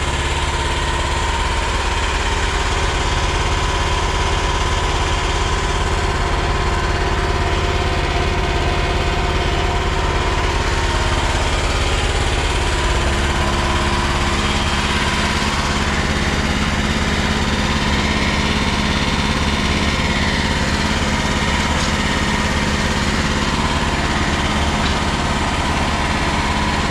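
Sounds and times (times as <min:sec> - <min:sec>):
skid steer engine running: 0:00.0 - 0:26.9.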